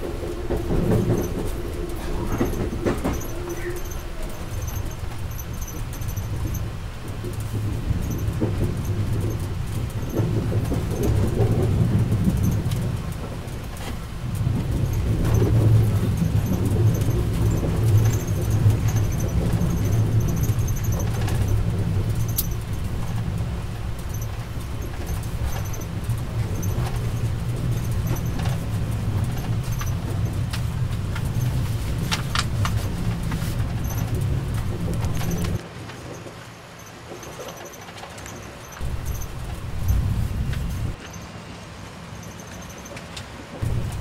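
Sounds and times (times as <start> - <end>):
train coach rumbling on rails: 0.0 - 44.0
wheels clicking and rattling: 0.0 - 44.0.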